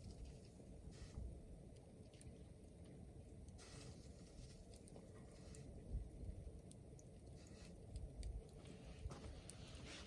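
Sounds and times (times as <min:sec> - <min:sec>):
soft fire hiss: 0:00.0 - 0:01.8, 0:02.6 - 0:06.5, 0:07.1 - 0:10.0
campfire low rumble: 0:00.0 - 0:10.0
faint fire crackles: 0:00.0 - 0:10.0.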